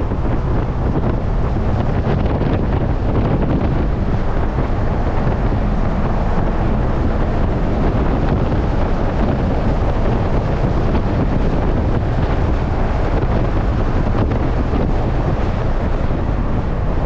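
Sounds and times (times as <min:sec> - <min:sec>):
car driving noise: 0:00.0 - 0:17.0
wind buffeting microphone: 0:00.0 - 0:17.0.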